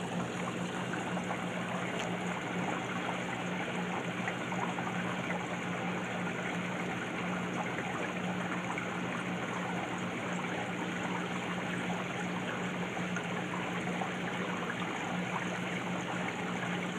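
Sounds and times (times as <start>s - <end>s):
water trickling and splashing: 0.0s - 16.9s.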